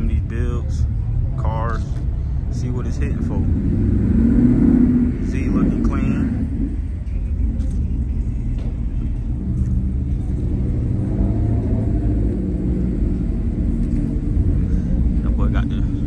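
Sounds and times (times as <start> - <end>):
car engines idling: 0.0 - 16.0.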